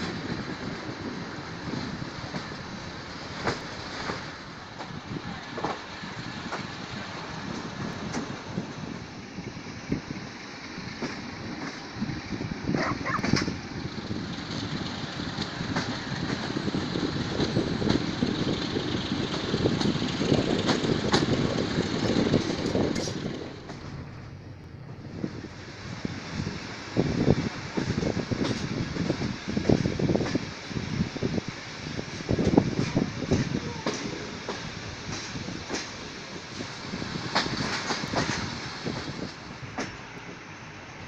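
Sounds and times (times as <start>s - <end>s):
rail joint clicks: 0.0s - 41.0s
train wheel-and-track rumble: 0.0s - 41.0s.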